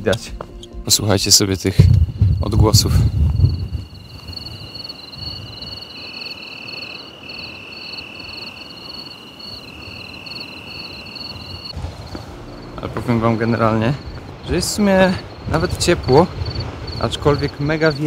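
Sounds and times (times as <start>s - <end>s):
low wind rumble: 0.9s - 18.0s
crickets trilling: 2.0s - 18.0s
fast pulsing cricket chirp: 2.0s - 18.0s.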